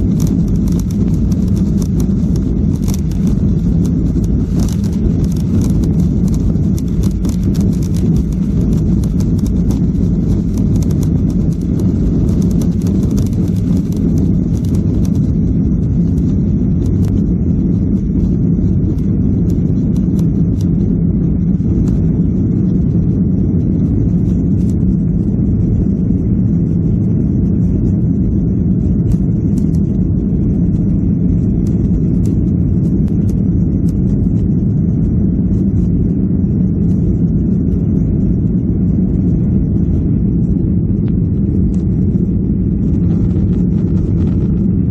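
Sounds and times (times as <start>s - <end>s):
jet engines low rumble: 0.0s - 44.9s.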